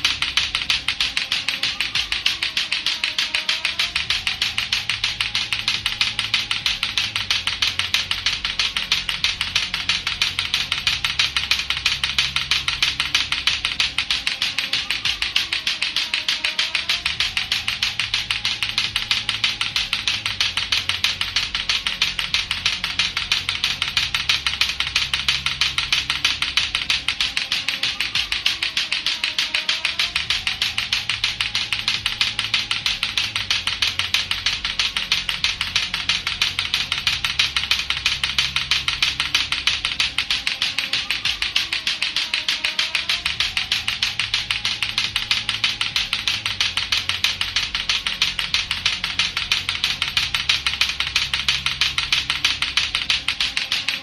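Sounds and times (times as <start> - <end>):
clacker balls clacking: 0.0 - 54.0.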